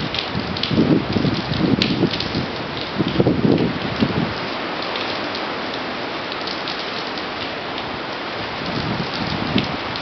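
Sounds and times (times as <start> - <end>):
gusting wind: 0.0 - 10.0
heavy rain pouring on pavement: 0.0 - 10.0.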